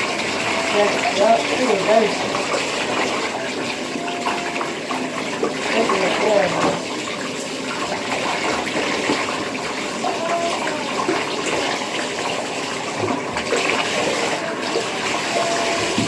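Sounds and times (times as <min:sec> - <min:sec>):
tap water running into tub: 0:00.0 - 0:16.0.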